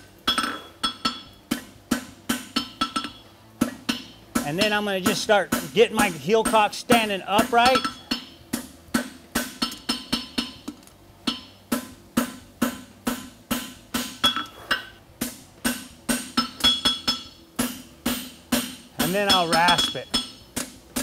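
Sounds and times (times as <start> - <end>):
hammer striking steel on anvil: 0.2 - 21.0.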